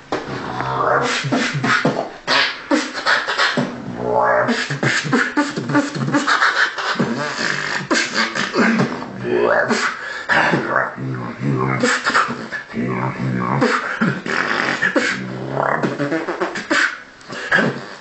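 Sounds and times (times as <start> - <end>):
beatboxing: 0.0 - 18.0.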